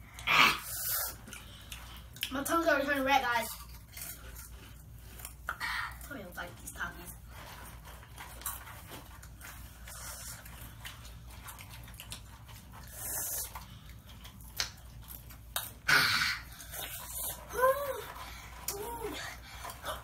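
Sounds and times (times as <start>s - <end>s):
people crunching snacks: 0.0s - 20.0s.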